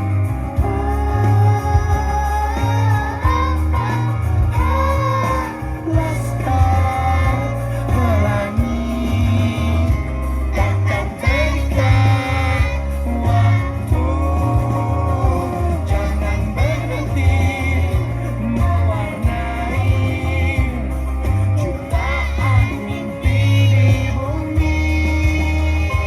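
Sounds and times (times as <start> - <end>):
instrumental accompaniment with bass: 0.0 - 26.0
children's choir singing: 0.6 - 20.7, 21.8 - 24.8.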